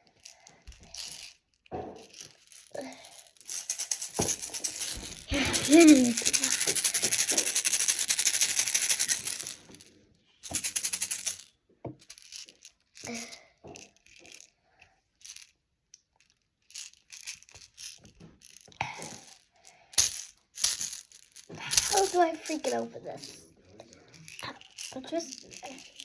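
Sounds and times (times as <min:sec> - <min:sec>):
plastic toy capsules rattling: 0:00.1 - 0:14.5, 0:15.2 - 0:26.0.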